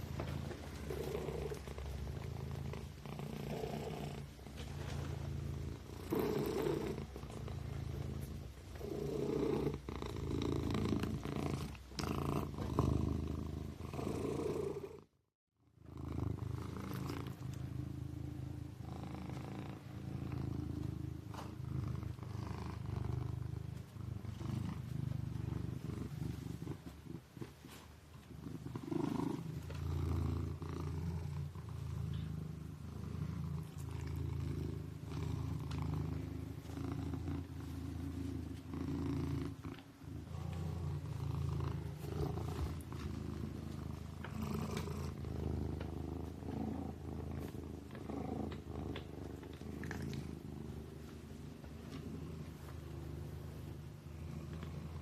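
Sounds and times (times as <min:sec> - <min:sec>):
kitten purring: 0:00.0 - 0:15.2, 0:15.8 - 0:55.0.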